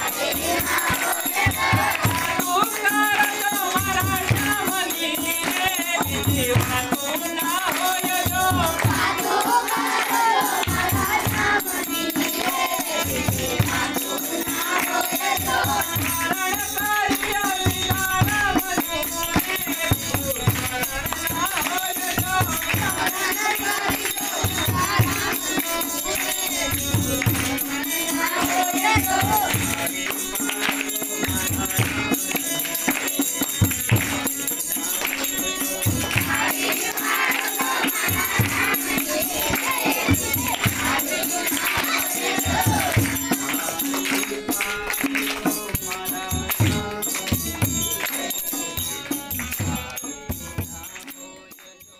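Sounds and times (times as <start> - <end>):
group singing: 0.0 - 51.2
hand claps: 0.0 - 51.9
harmonium drone: 0.0 - 51.9.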